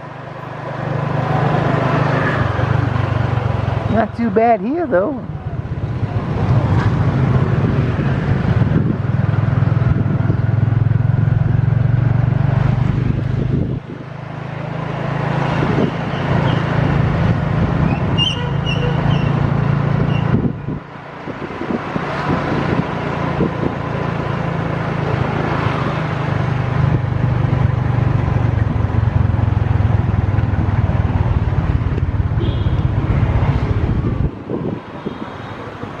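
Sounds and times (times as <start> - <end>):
vehicle engine in traffic: 0.0 - 36.0.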